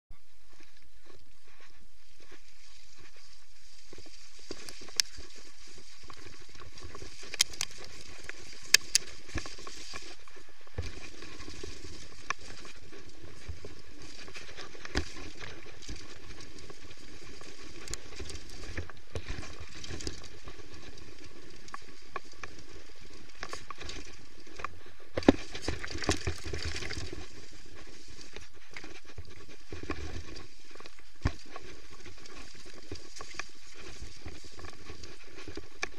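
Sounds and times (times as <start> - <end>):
wind and tyre noise: 0.1 - 35.9
bike knocking and rattling: 2.9 - 35.9.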